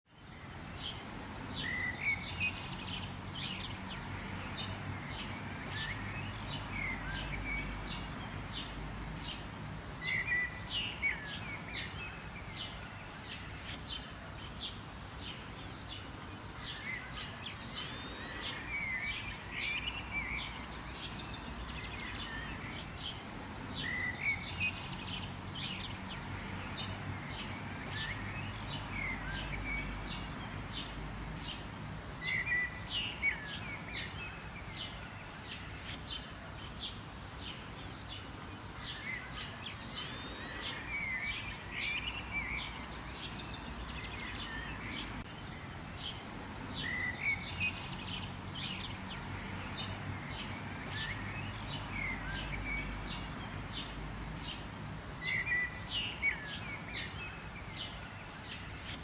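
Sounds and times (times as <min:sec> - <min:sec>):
wild birds chirping: 0:00.1 - 0:59.0.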